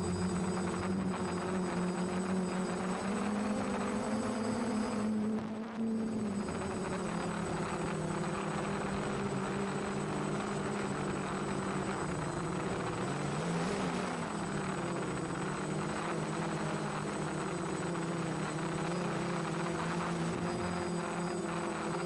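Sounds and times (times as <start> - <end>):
quadcopter motors buzzing: 0.0 - 22.0.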